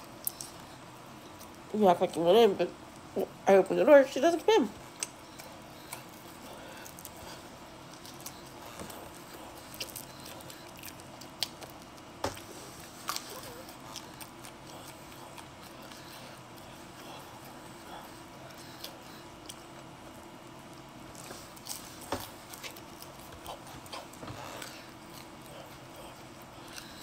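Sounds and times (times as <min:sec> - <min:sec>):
chewing pizza: 0:00.0 - 0:02.2, 0:04.7 - 0:27.0
low steady hum: 0:00.0 - 0:27.0.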